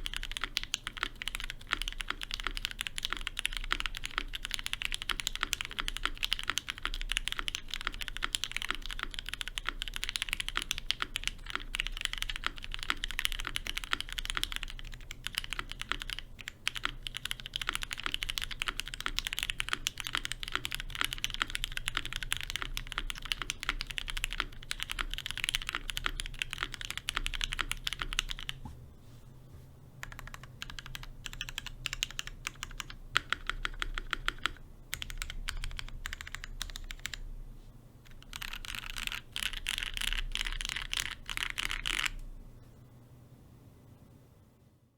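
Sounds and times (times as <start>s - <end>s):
mechanical keyboard typing: 0.0s - 28.6s, 30.0s - 37.3s, 38.0s - 42.2s
faint steady hum: 0.0s - 44.9s.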